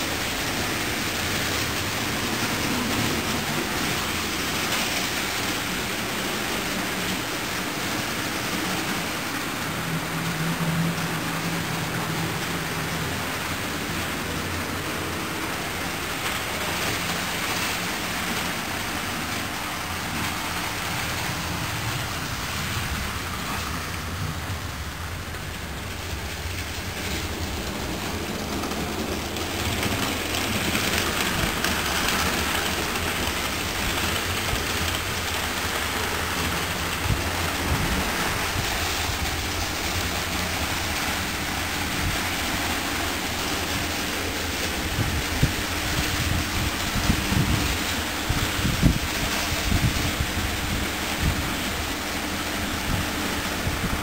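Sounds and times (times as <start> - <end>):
model train wheels rattling on rails: 0.0 - 54.0.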